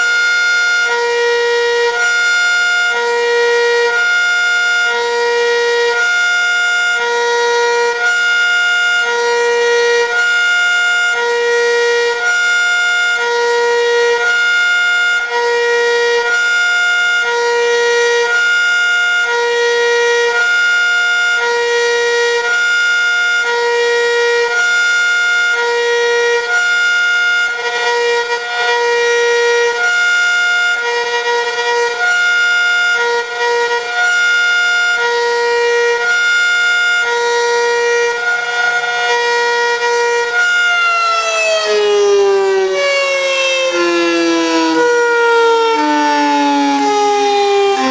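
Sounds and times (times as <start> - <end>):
warning siren hi-lo signal: 0.0 - 47.9.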